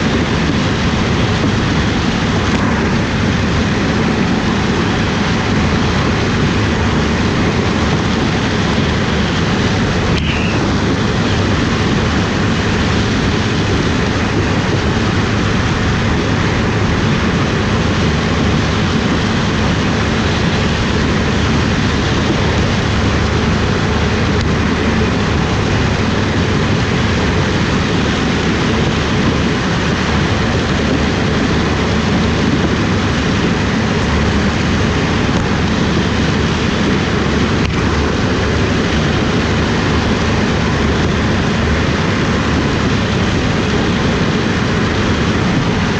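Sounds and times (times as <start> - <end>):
harvest machinery engine drone: 0.0 - 45.9.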